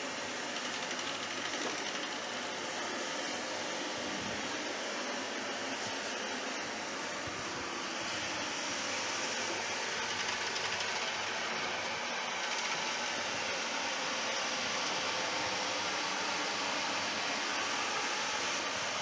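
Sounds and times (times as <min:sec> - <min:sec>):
robot vacuum cleaner whirring: 0:00.0 - 0:19.0.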